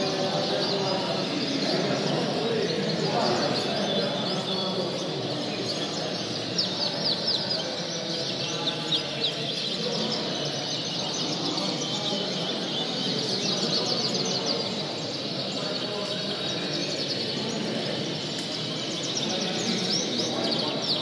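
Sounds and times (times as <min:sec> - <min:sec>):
canaries chirping and singing: 0:00.0 - 0:21.0.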